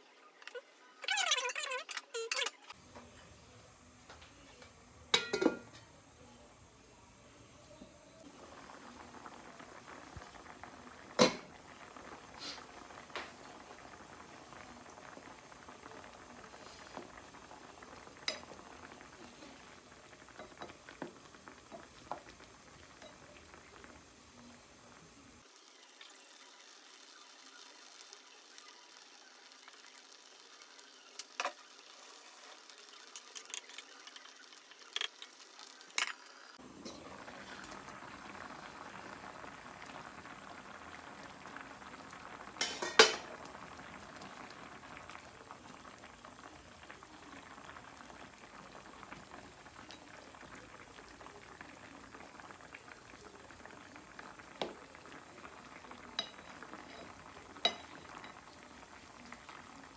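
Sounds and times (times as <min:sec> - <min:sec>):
food bubbling in a pan: 0:08.2 - 0:59.9.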